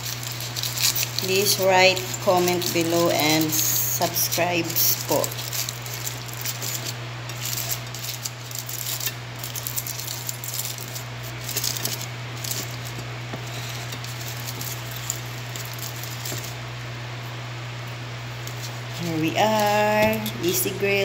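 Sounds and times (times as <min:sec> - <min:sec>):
aluminium foil crinkling: 0:00.0 - 0:16.7, 0:18.3 - 0:21.0
steady low hum: 0:00.0 - 0:21.0.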